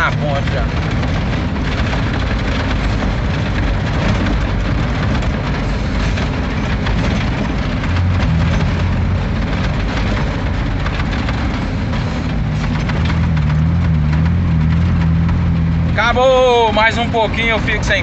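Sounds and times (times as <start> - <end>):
truck cab rattling: 0.0 - 18.0
truck engine drone: 0.0 - 18.0.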